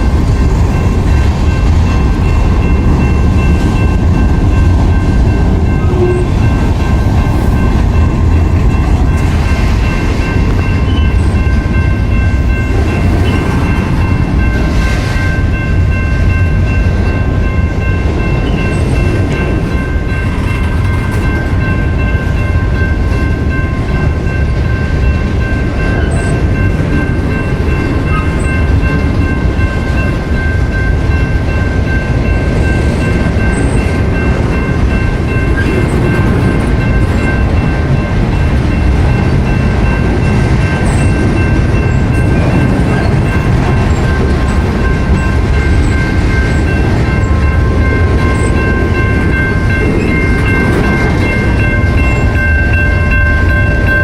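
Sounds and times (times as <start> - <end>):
freight train rumbling on rails: 0.0 - 54.0.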